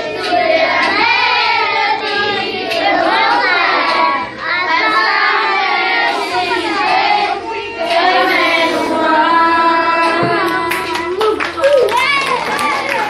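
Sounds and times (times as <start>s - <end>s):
children singing in unison: 0.0s - 11.2s.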